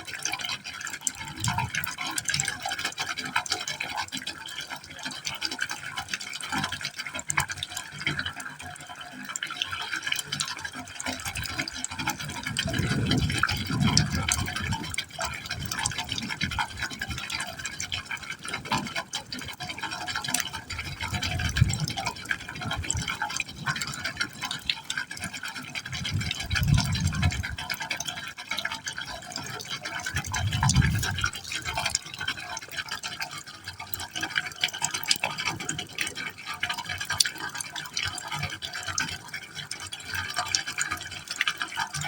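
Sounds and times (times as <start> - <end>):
gurgling from pipe: 0.0 - 42.0
water splashing into pipe hole: 0.0 - 42.0.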